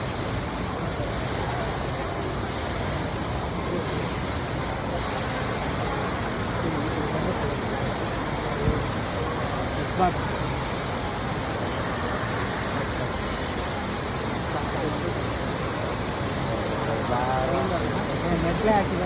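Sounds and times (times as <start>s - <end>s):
faint voices: 0.0s - 19.0s
waterfall rushing: 0.1s - 19.0s.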